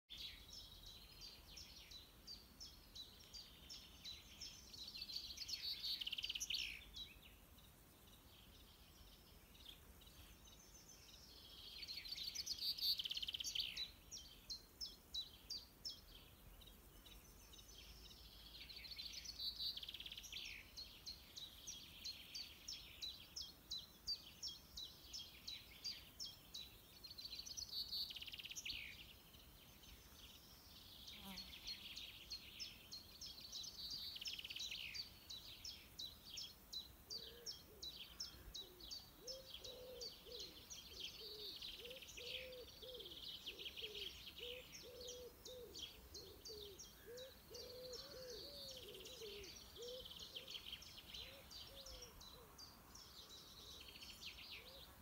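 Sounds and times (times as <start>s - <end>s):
birds singing: 0.1s - 55.0s.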